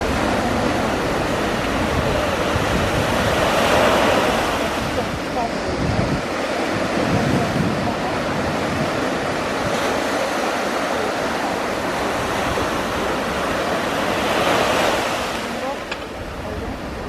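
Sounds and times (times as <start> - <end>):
surf washing on shore: 0.0 - 17.0
wind buffeting microphone: 0.0 - 17.0.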